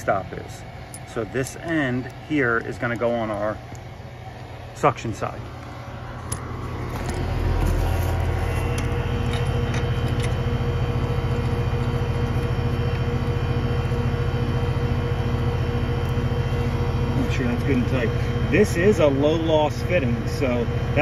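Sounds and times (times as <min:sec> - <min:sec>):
heat pump humming: 0:00.0 - 0:21.0.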